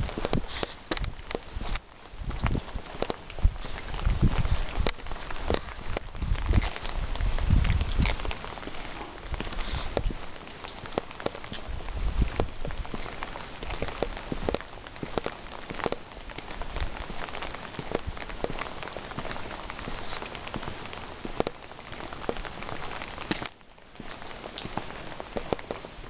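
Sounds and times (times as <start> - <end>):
water drips clicking: 0.0 - 25.9
rain on hard surfaces: 0.0 - 26.0.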